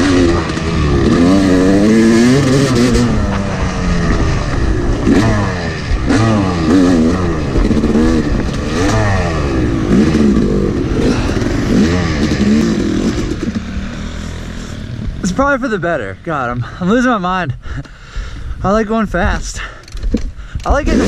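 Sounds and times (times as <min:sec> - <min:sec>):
dirt bike engine revving: 0:00.0 - 0:17.0, 0:20.7 - 0:21.0.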